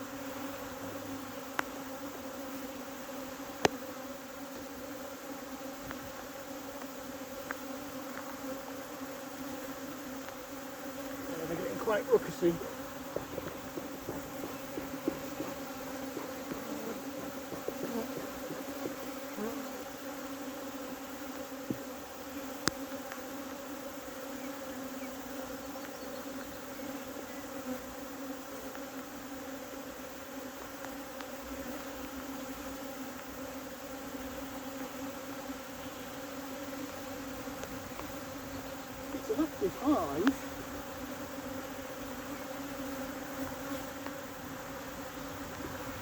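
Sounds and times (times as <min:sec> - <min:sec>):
honeybees buzzing: 0:00.0 - 0:46.0.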